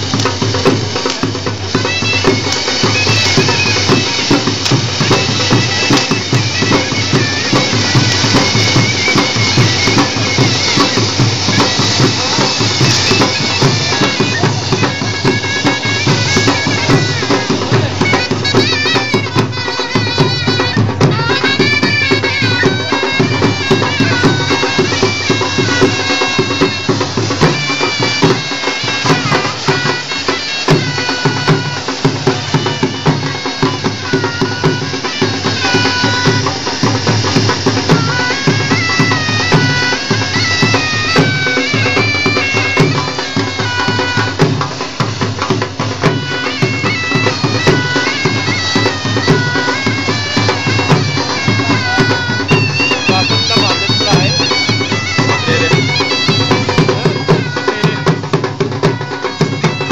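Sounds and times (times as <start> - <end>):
bagpipes playing folk tune: 0.0 - 59.9
drums beating: 0.0 - 59.9.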